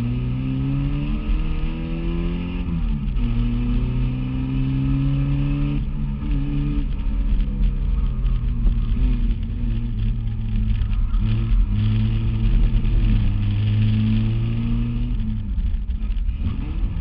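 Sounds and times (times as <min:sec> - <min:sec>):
race car engine running hard: 0:01.0 - 0:17.0.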